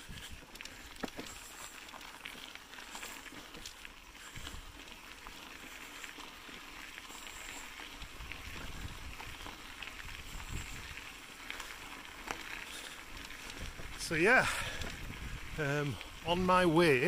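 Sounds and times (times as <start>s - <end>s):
bicycle tyres rolling on gravel: 0.0s - 17.0s.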